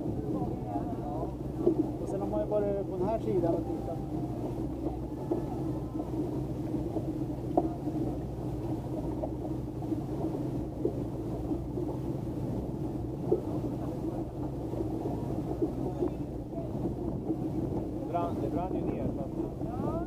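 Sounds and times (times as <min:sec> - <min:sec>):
motorboat engine rumbling: 0:00.0 - 0:20.0.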